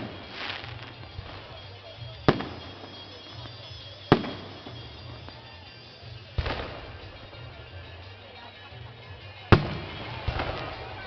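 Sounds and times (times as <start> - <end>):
fireworks bangs: 0.0 - 8.1, 9.5 - 11.0.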